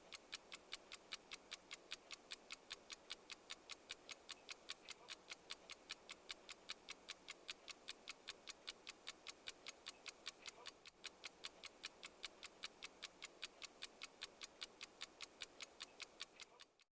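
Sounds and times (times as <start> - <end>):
clock ticking: 0.0 - 16.9.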